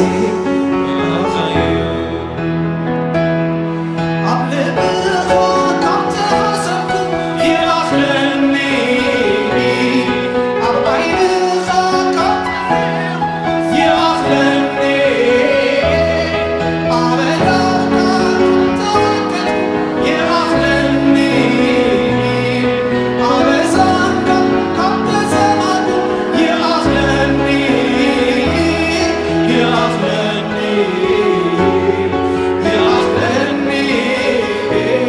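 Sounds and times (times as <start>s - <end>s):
keyboard accompaniment: 0.0s - 35.0s
choir singing worship song: 3.8s - 35.0s.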